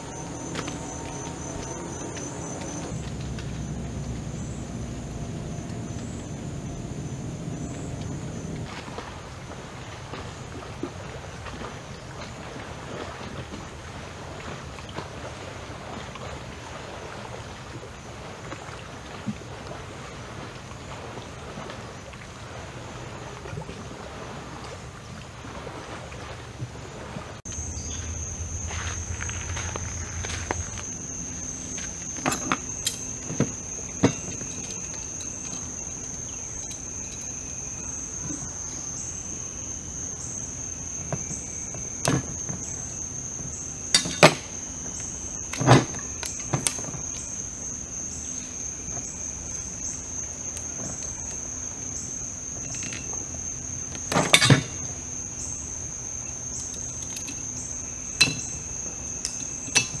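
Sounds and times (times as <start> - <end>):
crickets trilling: 0.0 - 60.0.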